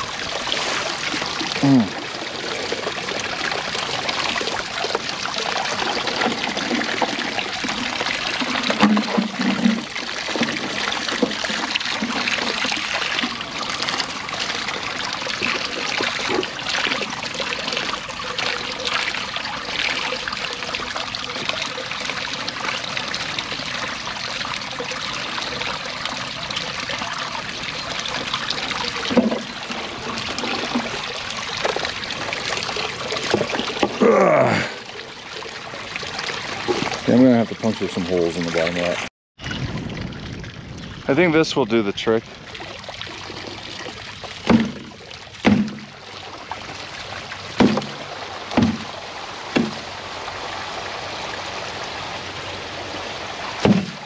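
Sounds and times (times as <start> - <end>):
creek water trickling and splashing: 0.0 - 54.0.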